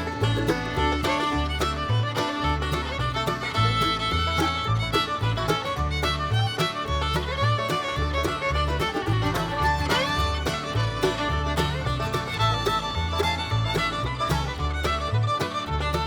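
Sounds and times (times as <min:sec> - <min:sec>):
upbeat fiddle-led country tune: 0:00.0 - 0:16.0.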